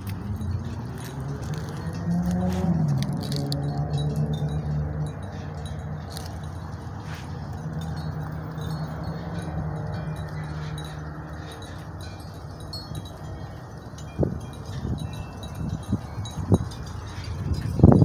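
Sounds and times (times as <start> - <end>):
wind chimes tinkling: 0.0 - 18.0.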